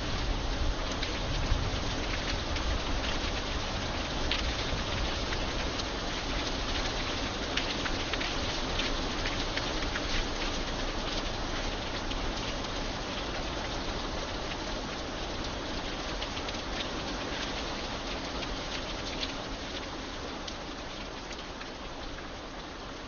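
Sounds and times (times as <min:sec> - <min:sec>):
steady rain: 0:00.0 - 0:23.0
raindrops ticking: 0:00.1 - 0:23.0.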